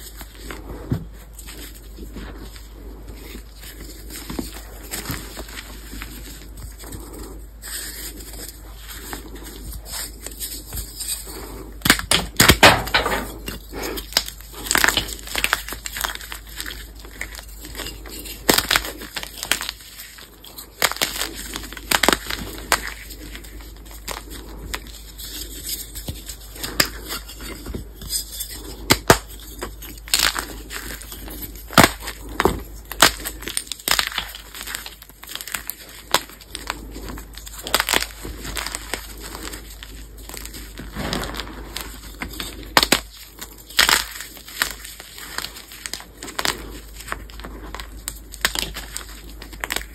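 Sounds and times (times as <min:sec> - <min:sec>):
chalk crunching and cracking: 0:00.0 - 0:49.9.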